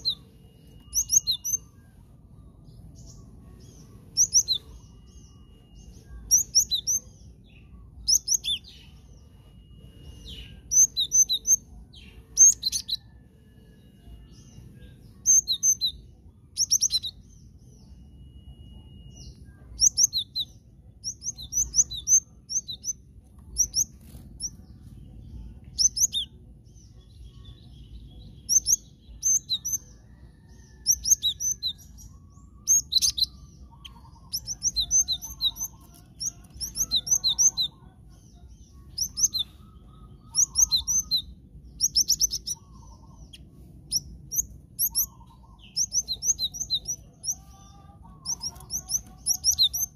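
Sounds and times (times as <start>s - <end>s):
bird chirping: 0.0s - 49.9s.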